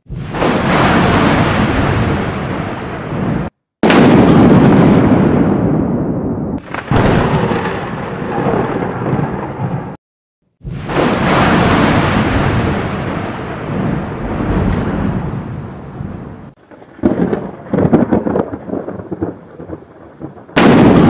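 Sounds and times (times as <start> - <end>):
sharp thunder crack: 0.0 - 10.0, 10.6 - 21.0
thunder rumbling: 0.0 - 10.0, 10.6 - 21.0.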